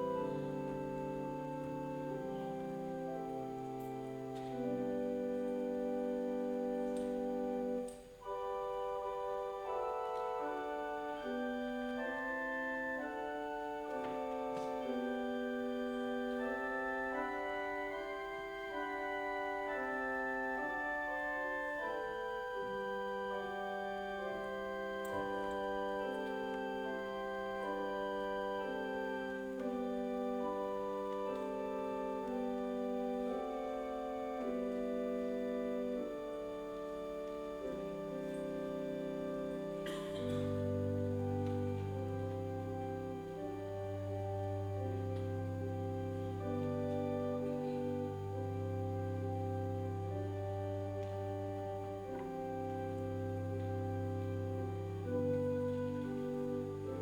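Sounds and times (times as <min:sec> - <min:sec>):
organ playing slowly: 0:00.0 - 0:57.0.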